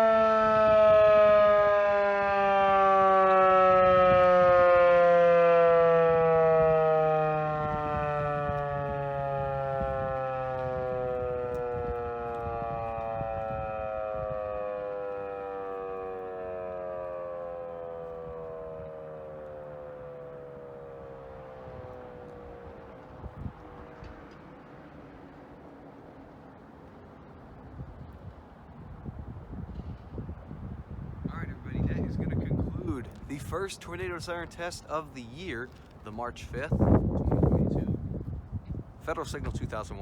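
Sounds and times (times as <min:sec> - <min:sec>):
tornado siren winding down: 0:00.0 - 0:35.9.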